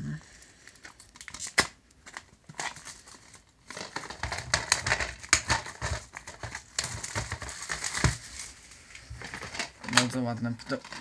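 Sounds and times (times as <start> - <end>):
plastic wrap crinkling: 0.4 - 11.0.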